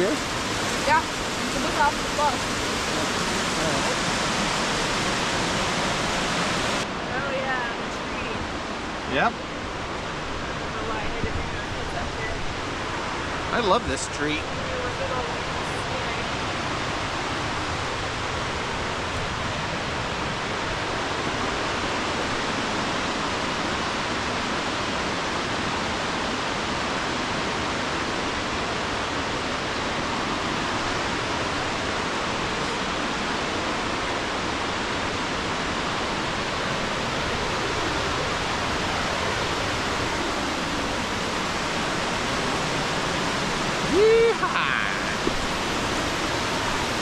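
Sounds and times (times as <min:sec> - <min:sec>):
rushing creek water: 0:00.0 - 0:47.0.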